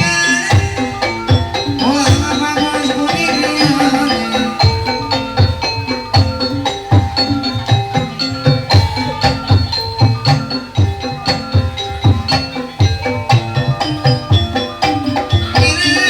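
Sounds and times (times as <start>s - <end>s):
hand drums beating: 0.0s - 16.0s
ringing metallophone notes: 0.0s - 16.0s.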